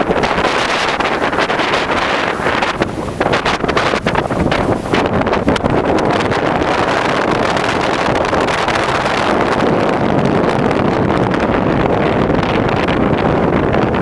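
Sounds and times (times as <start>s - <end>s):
wind blowing against microphone: 0.0s - 14.0s.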